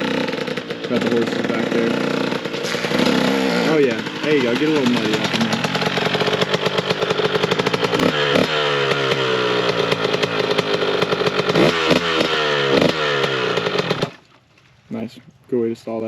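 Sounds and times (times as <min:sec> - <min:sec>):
dirt bike engine revving: 0:00.0 - 0:14.2.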